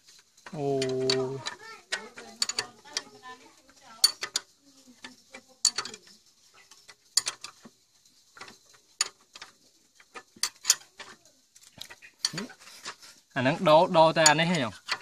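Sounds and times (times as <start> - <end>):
close handling noise: 0.0 - 13.3.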